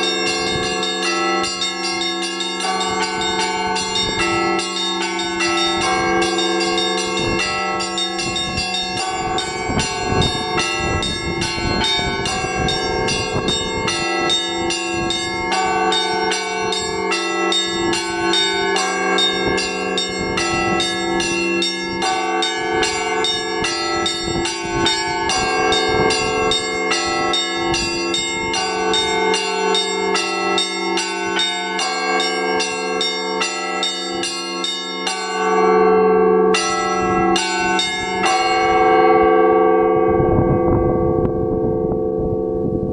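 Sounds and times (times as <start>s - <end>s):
church bells ringing: 0.0s - 42.9s.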